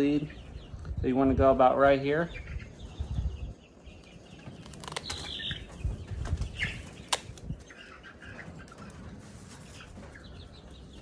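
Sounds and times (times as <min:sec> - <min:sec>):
chicken chirping: 0:00.0 - 0:11.0.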